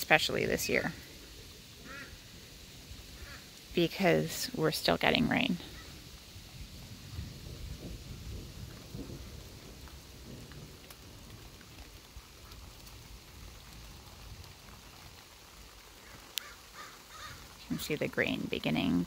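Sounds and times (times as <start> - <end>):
light rain pattering: 0.0 - 19.0.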